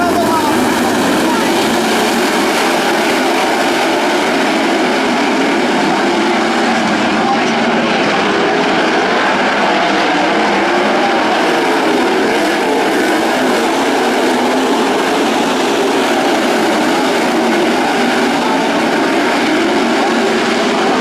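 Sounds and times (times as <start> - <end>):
racing car engines droning: 0.0 - 21.0.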